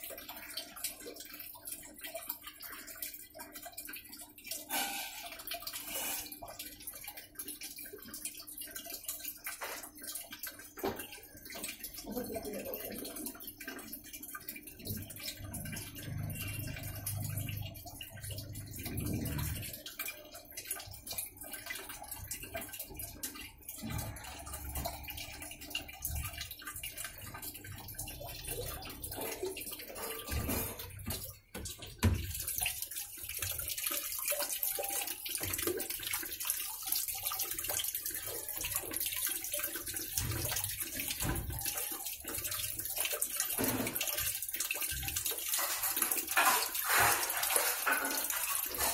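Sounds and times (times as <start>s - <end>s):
washing machine water sloshing: 0.0s - 48.9s.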